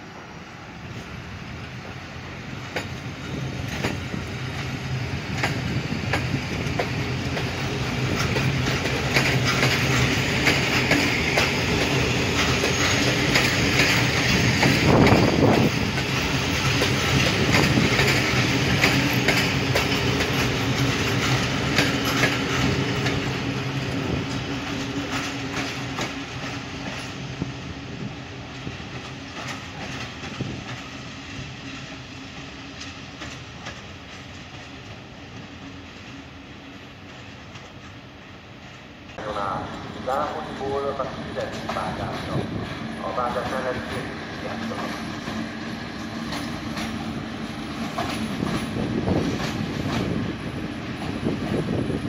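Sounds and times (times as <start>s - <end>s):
train rumble and hum: 0.0s - 52.0s
train wheels clicking over rail joints: 2.6s - 36.3s, 37.0s - 52.0s.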